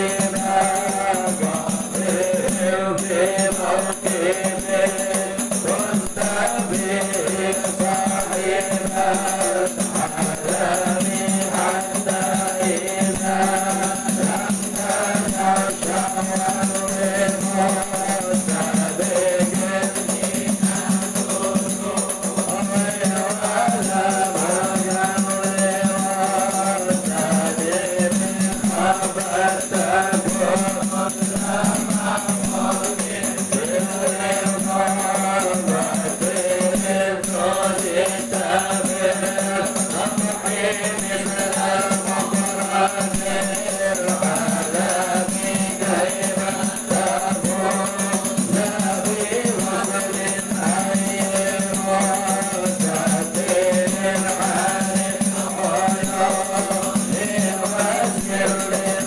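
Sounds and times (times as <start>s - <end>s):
frame drums: 0.0s - 59.0s
men chanting together: 0.0s - 59.0s
person singing into a microphone: 0.0s - 59.0s.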